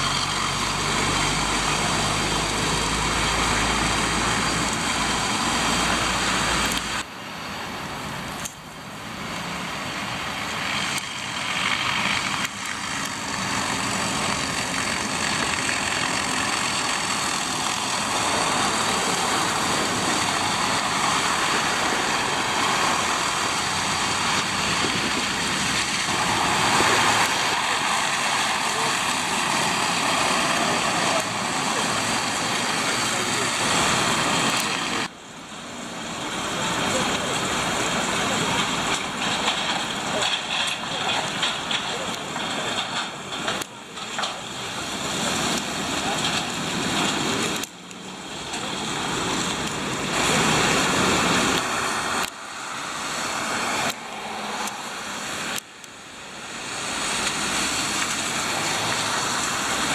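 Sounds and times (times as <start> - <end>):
tyre hiss on wet road: 0.0 - 59.9
vehicles driving past: 0.0 - 59.9.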